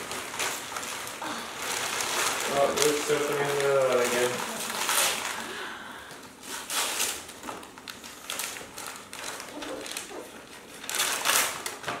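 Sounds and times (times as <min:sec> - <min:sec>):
wrapping paper tearing and crumpling: 0:00.0 - 0:12.0.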